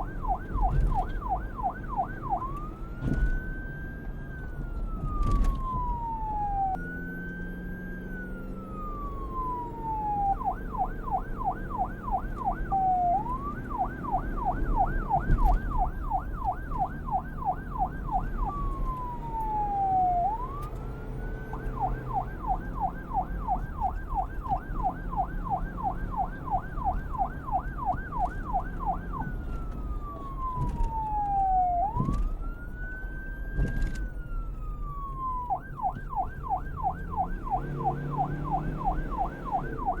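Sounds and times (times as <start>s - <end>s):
low traffic rumble: 0.0s - 40.0s
police car siren wailing and yelping: 0.0s - 40.0s.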